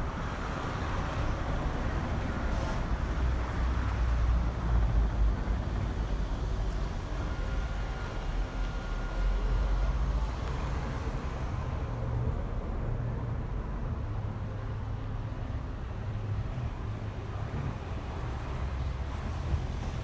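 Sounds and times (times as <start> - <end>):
distant traffic rumble: 0.0 - 20.0
faint city hum: 0.0 - 20.0.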